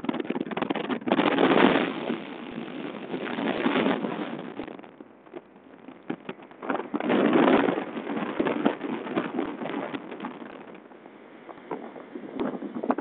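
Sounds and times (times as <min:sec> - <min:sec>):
hull slapping waves: 0:00.0 - 0:13.0
outboard motor: 0:00.0 - 0:13.0
water rushing along a boat hull: 0:00.0 - 0:13.0
wind on microphone: 0:00.0 - 0:13.0.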